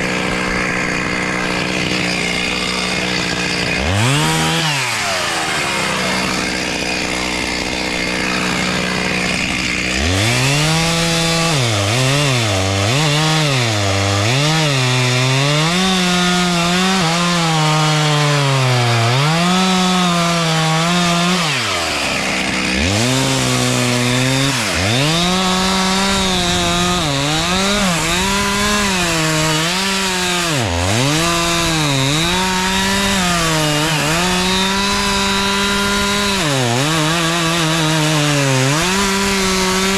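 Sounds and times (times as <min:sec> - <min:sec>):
chainsaw revving and cutting: 0:00.0 - 0:39.9.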